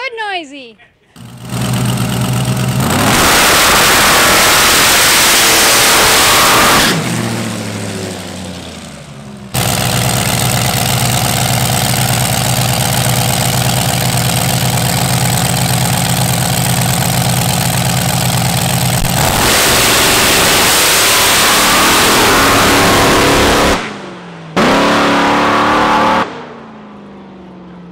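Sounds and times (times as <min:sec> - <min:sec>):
diesel drag engine revving: 0:01.2 - 0:26.8.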